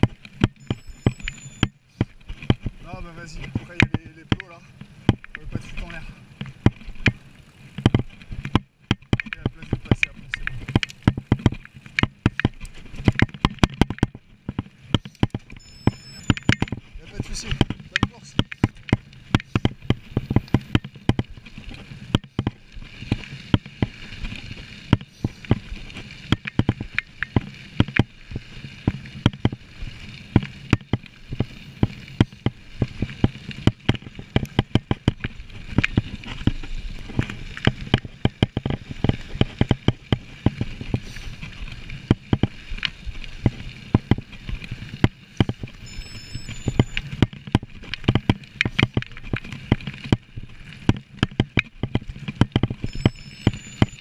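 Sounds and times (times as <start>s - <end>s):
bike knocks and rattles: 0.0s - 0.8s, 1.6s - 15.6s, 16.3s - 45.8s, 47.1s - 53.0s
tyres rolling on trail: 0.0s - 54.0s.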